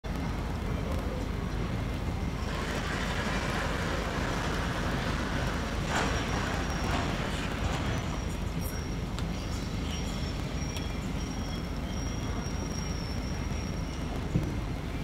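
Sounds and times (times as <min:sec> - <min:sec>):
low traffic rumble: 0:00.0 - 0:15.0
mid-pitched street din: 0:00.0 - 0:15.0.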